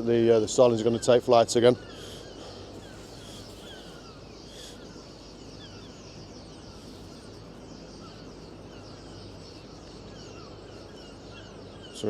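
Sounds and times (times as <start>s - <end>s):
starlings chattering: 0.0s - 12.0s
steady low hum: 0.0s - 12.0s.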